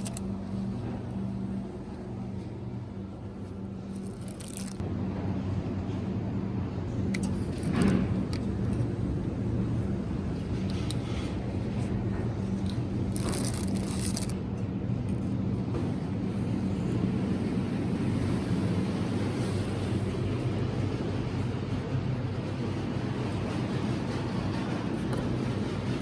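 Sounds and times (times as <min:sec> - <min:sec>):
constant hum: 0:00.0 - 0:26.0
low mechanical rumble: 0:00.0 - 0:26.0.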